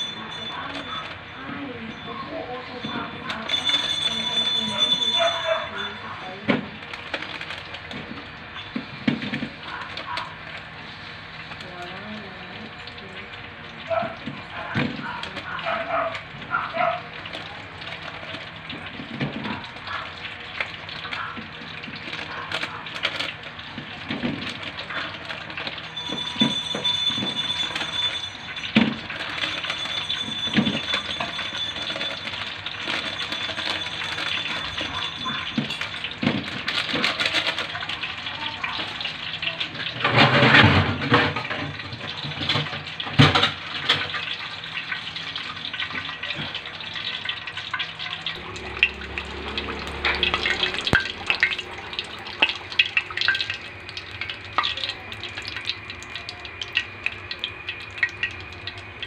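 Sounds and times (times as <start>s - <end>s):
oil bubbling in a wok: 0.0s - 59.0s.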